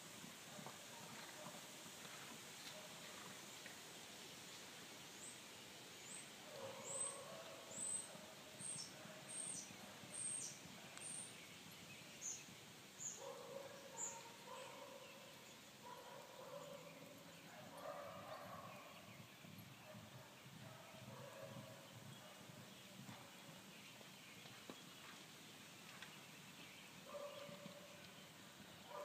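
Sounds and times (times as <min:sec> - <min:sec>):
songbird chirping: 0:05.2 - 0:29.0.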